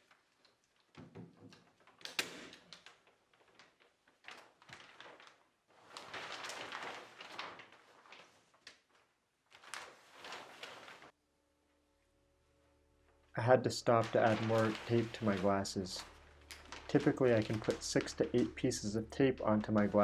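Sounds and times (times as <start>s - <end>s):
plastic sheeting crinkling: 0.0s - 11.2s, 12.6s - 20.0s.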